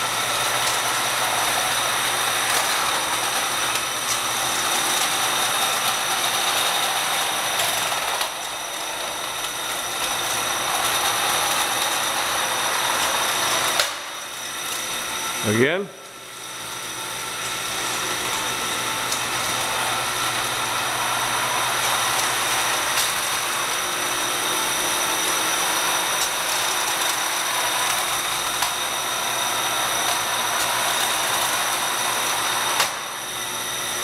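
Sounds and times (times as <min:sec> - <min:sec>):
roller conveyor whirring: 0:00.0 - 0:34.0.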